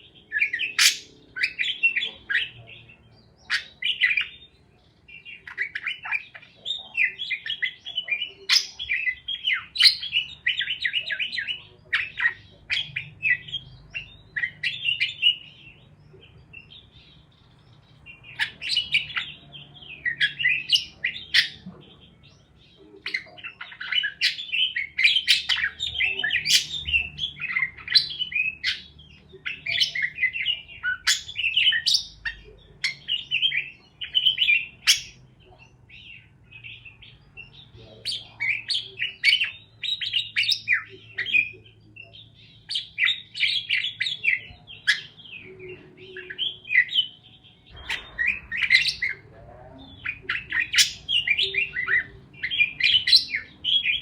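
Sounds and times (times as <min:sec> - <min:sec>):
parakeets chirping and warbling: 0:00.0 - 0:54.0.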